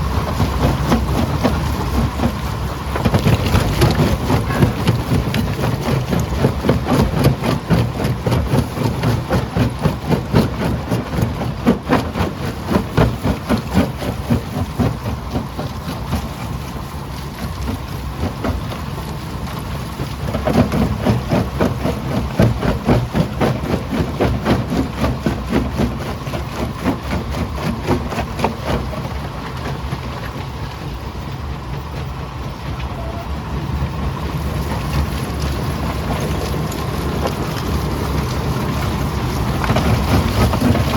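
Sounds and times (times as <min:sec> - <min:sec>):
crusher machine drone: 0:00.0 - 0:40.9.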